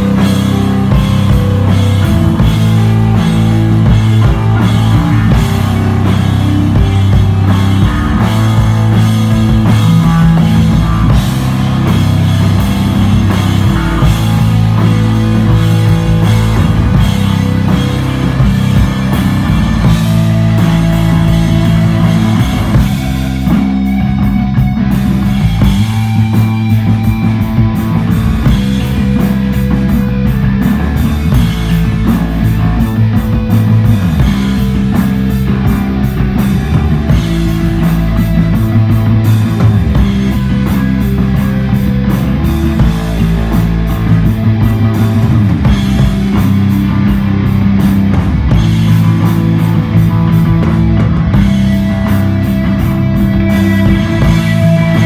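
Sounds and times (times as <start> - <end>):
drums: 0.0 - 55.0
electric guitar: 0.0 - 55.0
heavy sustained bass: 0.0 - 55.0.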